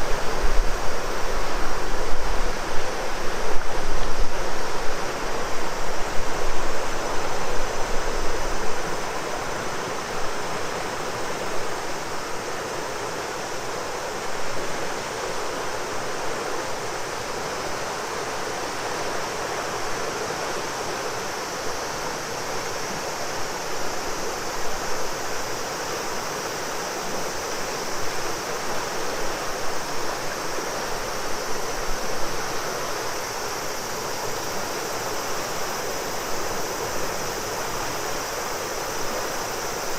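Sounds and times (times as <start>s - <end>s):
cicadas droning: 0.0s - 39.9s
river rushing: 0.0s - 39.9s.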